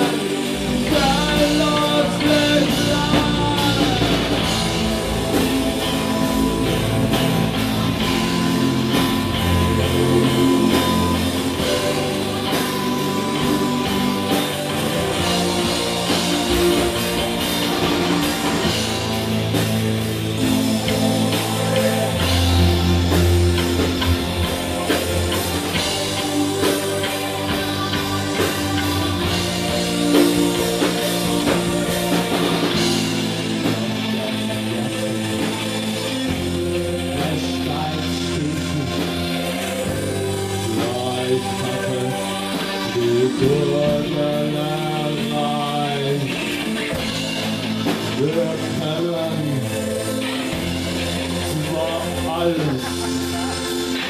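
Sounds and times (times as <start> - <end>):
bass line: 0.0 - 54.0
drum kit: 0.0 - 54.0
electric guitar: 0.0 - 54.0
keyboard: 0.0 - 54.0.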